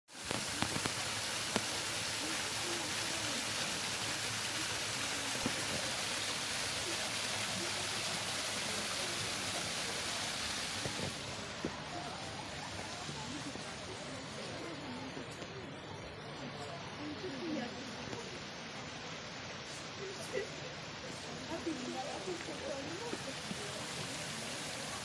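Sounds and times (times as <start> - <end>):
waterfall splashing into pond: 0.1 - 25.0.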